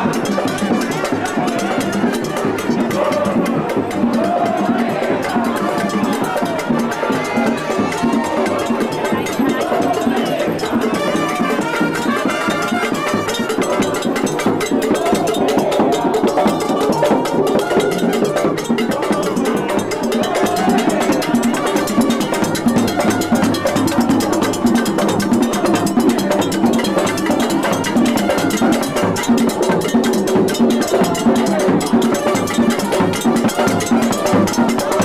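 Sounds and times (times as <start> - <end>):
cowbell: 0.0 - 35.0
street percussion playing: 0.0 - 35.0.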